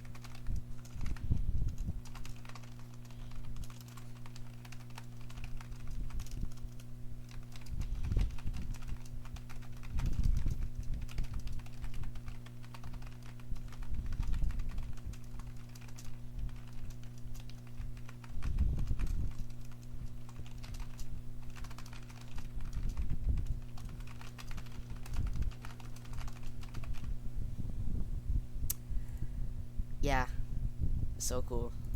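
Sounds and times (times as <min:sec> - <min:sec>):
fast keyboard typing: 0:00.0 - 0:27.2.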